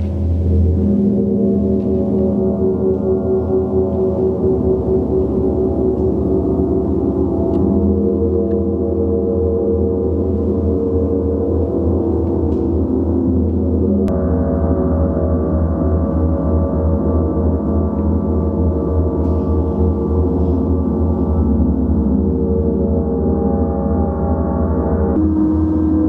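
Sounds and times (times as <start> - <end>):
large gongs ringing: 0.0 - 26.0
low pulsing hum: 0.0 - 26.0.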